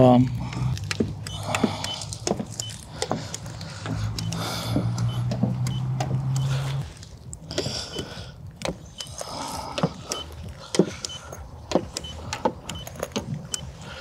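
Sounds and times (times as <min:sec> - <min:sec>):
gauge clicks and taps: 0:00.0 - 0:14.0.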